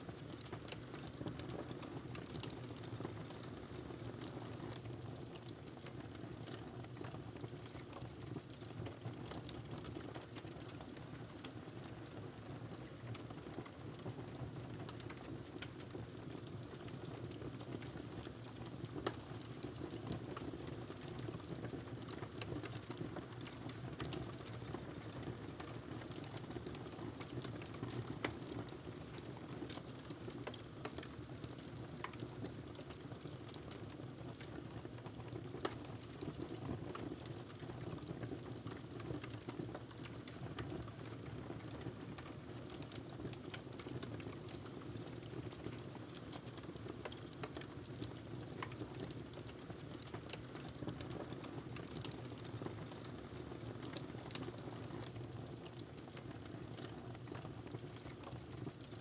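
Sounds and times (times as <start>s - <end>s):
fire crackling and popping: 0.1s - 12.0s, 12.8s - 59.0s.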